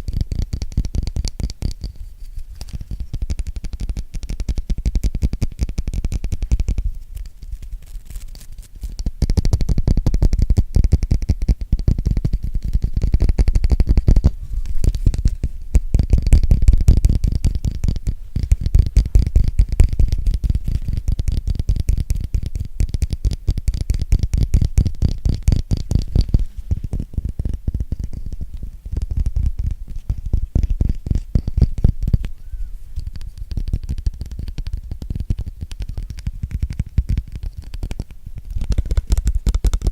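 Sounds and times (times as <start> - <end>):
fast muffled tapping: 0.0 - 39.9.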